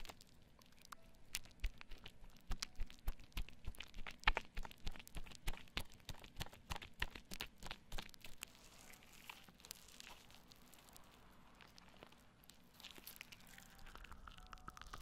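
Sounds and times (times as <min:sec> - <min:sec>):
soap foam squished by hands: 0:00.0 - 0:15.0.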